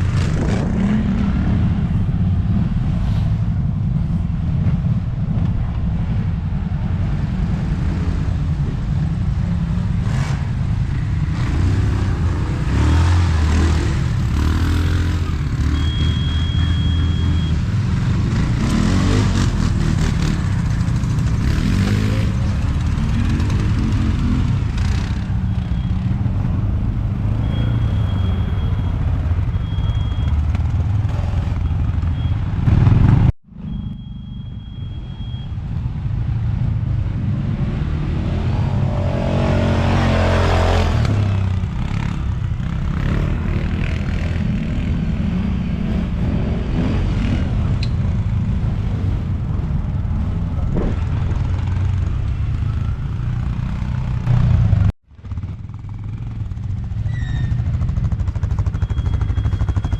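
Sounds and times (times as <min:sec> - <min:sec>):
quad bike engines rumbling: 0:00.0 - 0:59.9.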